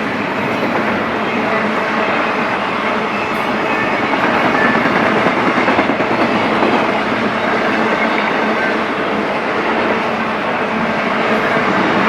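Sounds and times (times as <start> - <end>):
train wheels running on rails: 0.0 - 12.0.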